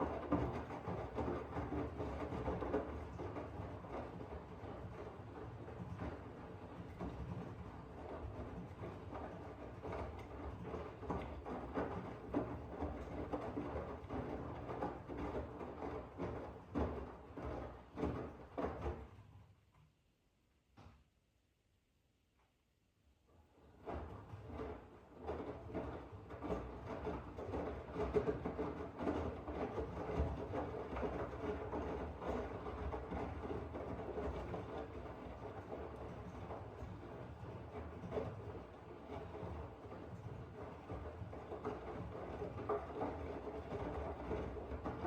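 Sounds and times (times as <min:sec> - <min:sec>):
washing machine churning and rattling: 0:00.0 - 0:19.3, 0:23.6 - 0:45.0.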